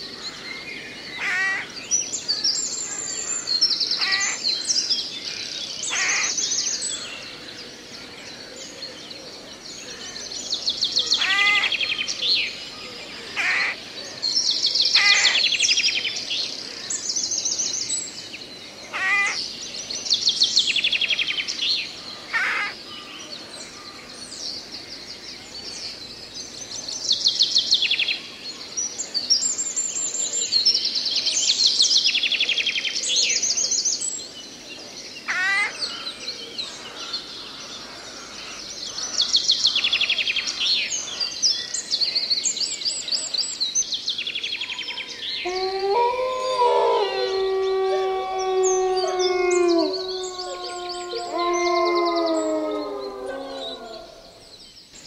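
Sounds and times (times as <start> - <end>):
songbirds trilling: 0.0 - 55.0.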